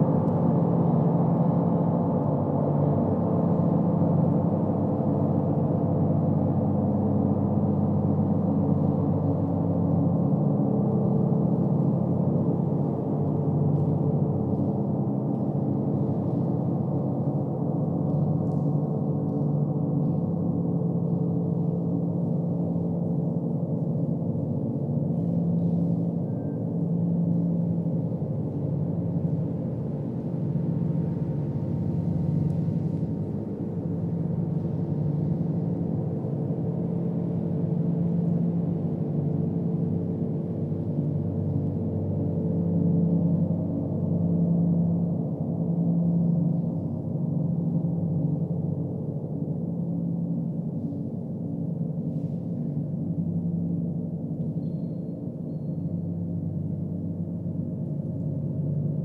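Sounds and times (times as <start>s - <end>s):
gong drone: 0.0s - 59.0s.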